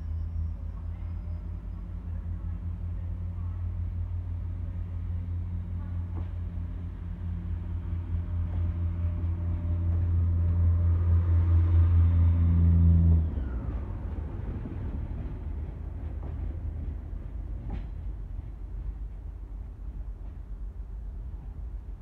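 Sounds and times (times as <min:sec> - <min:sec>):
diesel train engine running: 0:00.0 - 0:22.0
train rumbling away: 0:00.0 - 0:22.0.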